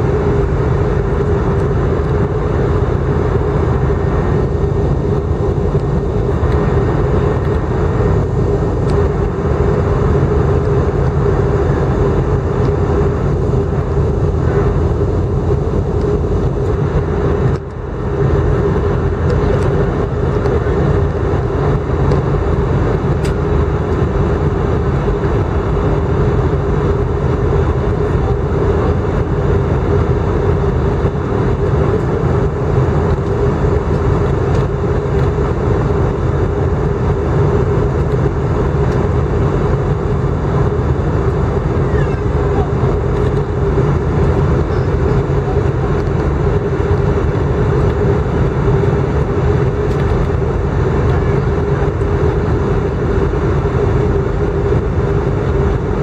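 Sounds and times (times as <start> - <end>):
airliner engines droning: 0.0 - 56.0
rushing airflow: 0.0 - 56.0
steady cabin hum: 0.0 - 56.0.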